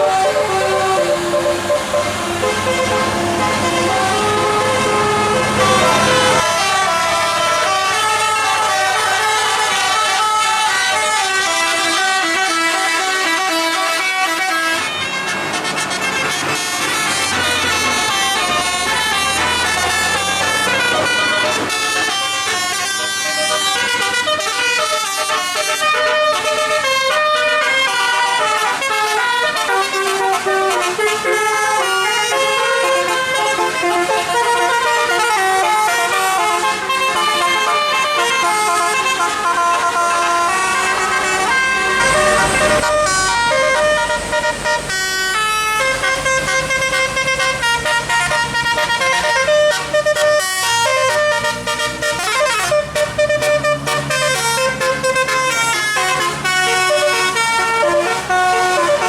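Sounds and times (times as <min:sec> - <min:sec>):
bus musical air horns: 0:00.0 - 0:59.0.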